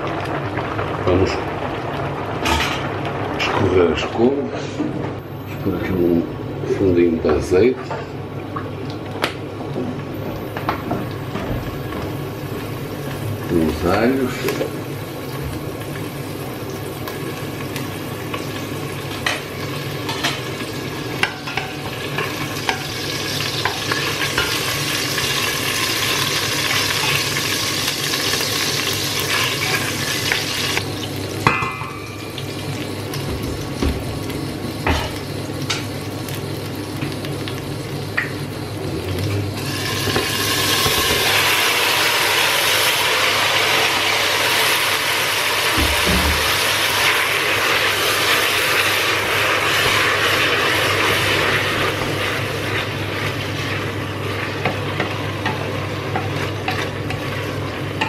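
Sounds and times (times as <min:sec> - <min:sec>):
garlic sizzling in oil: 0:10.6 - 0:38.8, 0:39.6 - 0:58.0.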